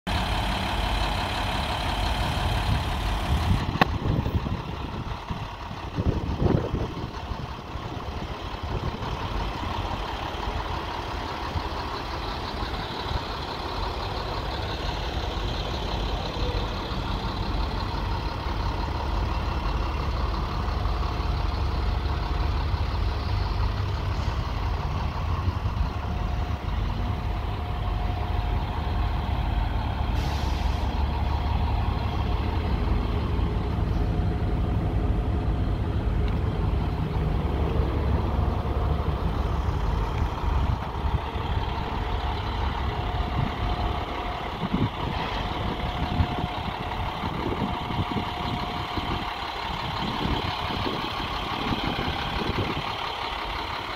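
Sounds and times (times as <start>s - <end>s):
truck engine idling: 0.1s - 53.9s.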